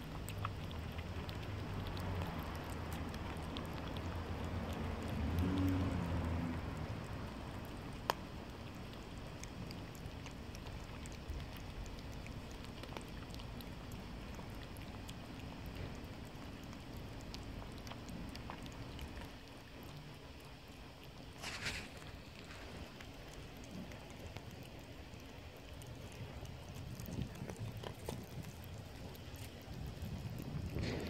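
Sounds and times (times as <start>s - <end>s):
cats licking wet ticks: 0.0s - 31.0s.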